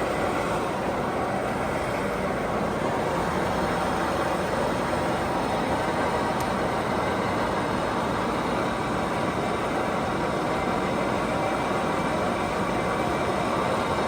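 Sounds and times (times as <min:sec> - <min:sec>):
lathe running with steady whir: 0:00.0 - 0:14.0.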